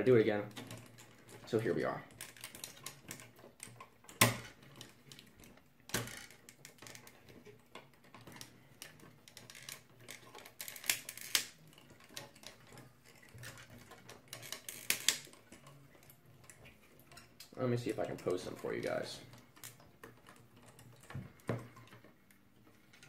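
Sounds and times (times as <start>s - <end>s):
plastic toy clicks and rattles: 0.0s - 23.0s.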